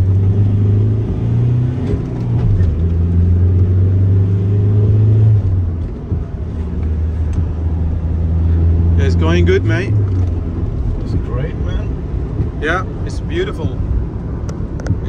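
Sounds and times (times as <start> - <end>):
diesel engine accelerating: 0.0 - 15.0.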